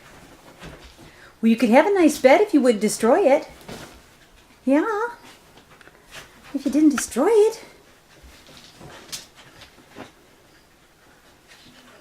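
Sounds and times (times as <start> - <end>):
faint scuffling and rustling: 0.0 - 2.4, 3.0 - 12.0.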